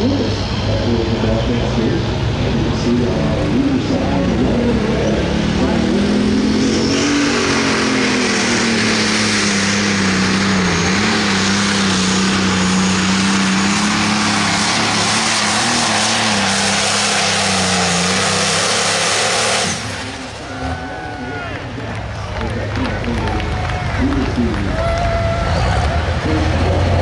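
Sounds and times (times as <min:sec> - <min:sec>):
diesel tractor engine at full load: 0:00.0 - 0:27.0
heavy rushing noise: 0:00.0 - 0:27.0.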